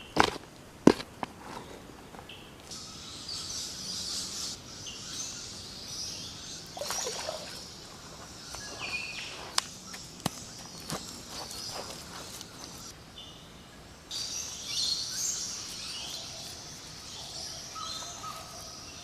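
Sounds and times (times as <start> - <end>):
birds chirping: 1.6 - 19.0.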